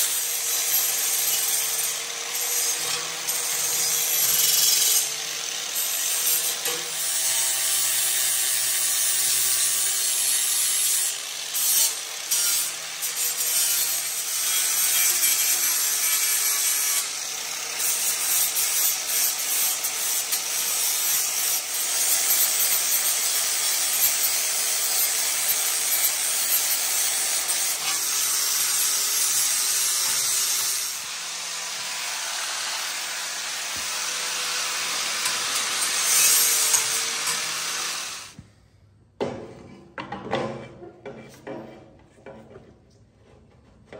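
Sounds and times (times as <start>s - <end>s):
power tool grinding steel: 0.0s - 38.4s.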